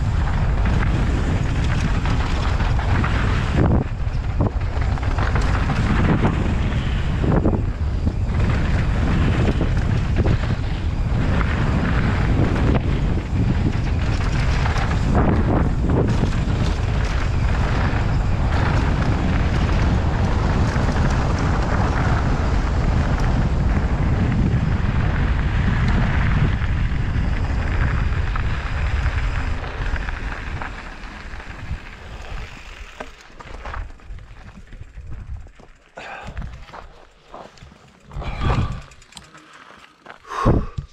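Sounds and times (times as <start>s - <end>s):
wind on microphone: 0.0s - 39.0s, 40.2s - 40.9s
bike tyres rolling on gravel: 0.0s - 40.9s.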